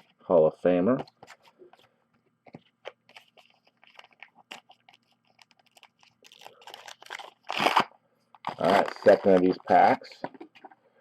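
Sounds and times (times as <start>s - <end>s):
trading cards and wrapper crinkling: 1.0s - 10.8s.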